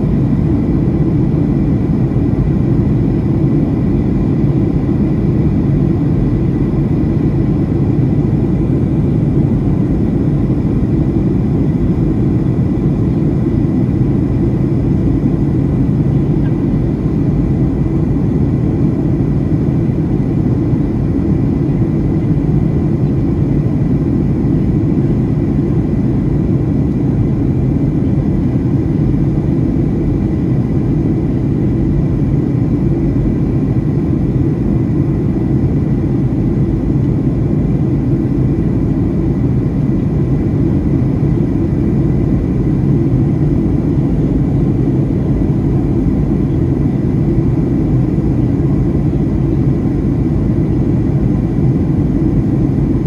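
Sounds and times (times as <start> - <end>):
airflow over fuselage: 0.0 - 53.0
jet engines rumbling: 0.0 - 53.0.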